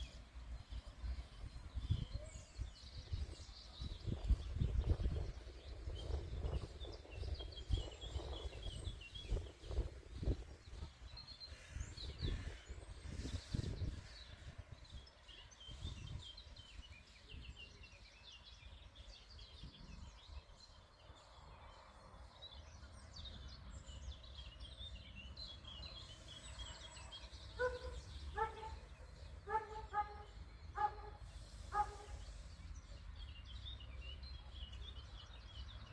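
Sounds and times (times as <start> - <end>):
small songbirds twittering: 0.0 - 35.9.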